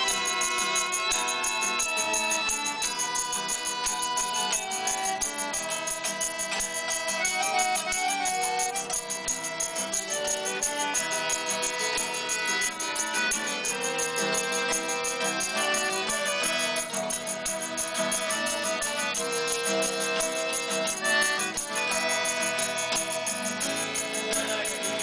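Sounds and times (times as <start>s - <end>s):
acoustic instruments jamming: 0.0s - 25.0s
fast steady ticking: 0.0s - 25.0s
out-of-tune violin: 0.0s - 25.0s.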